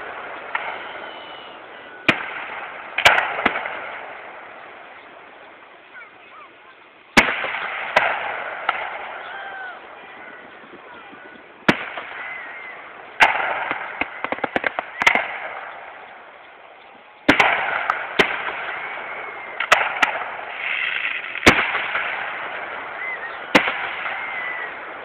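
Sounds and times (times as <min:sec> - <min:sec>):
crackling pops: 0:00.0 - 0:05.7, 0:07.2 - 0:09.3, 0:10.5 - 0:25.0
fireworks bangs: 0:00.0 - 0:05.7, 0:07.1 - 0:25.0.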